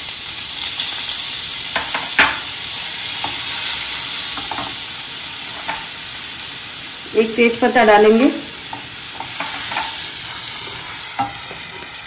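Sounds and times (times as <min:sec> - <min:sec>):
butter sizzling in oil: 0:00.0 - 0:12.0.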